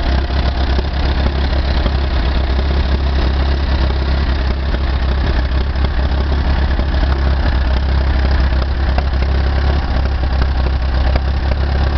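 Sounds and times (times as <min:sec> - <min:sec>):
tractor engine idling: 0:00.0 - 0:11.9.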